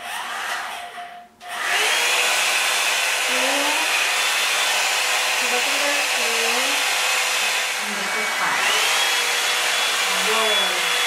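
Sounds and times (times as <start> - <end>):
hair dryer blowing with motor whine: 0.0 - 11.0.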